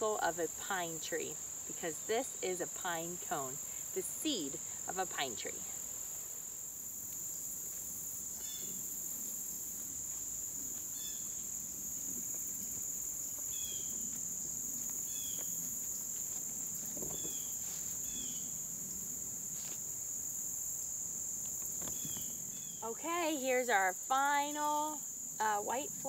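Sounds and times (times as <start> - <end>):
insects chorus: 0.0 - 26.0.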